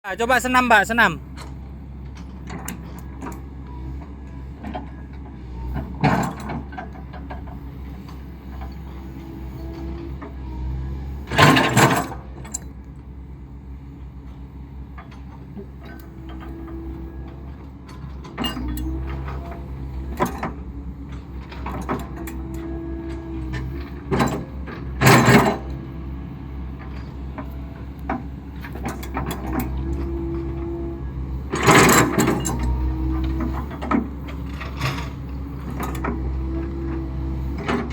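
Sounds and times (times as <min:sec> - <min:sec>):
excavator diesel engine running: 0:00.0 - 0:37.9
hydraulic whine: 0:07.4 - 0:37.9.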